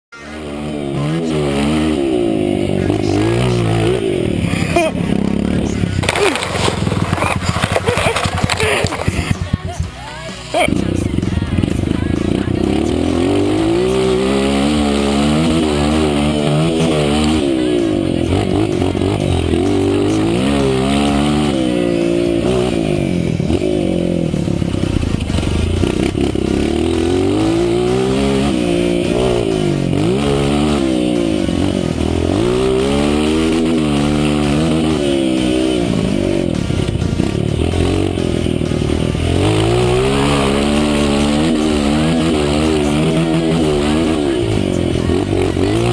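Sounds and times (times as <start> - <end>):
dirt bike engine revving: 0.1 - 45.9.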